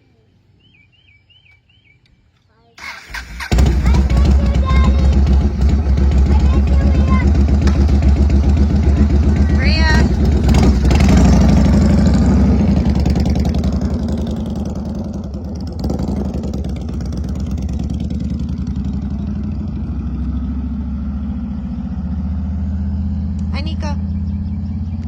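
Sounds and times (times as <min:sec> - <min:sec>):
motorcycle engine running: 0:02.9 - 0:25.0.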